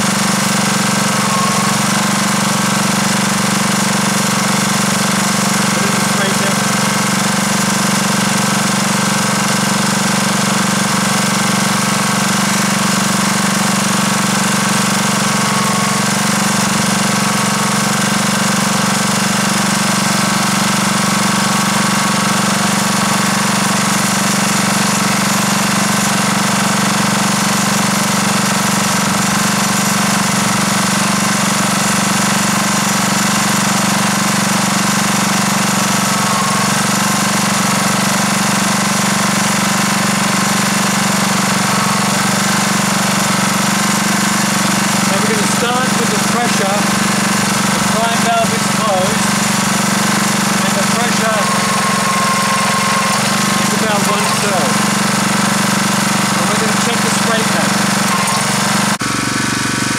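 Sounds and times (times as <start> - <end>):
small gasoline engine running: 0.0 - 59.9.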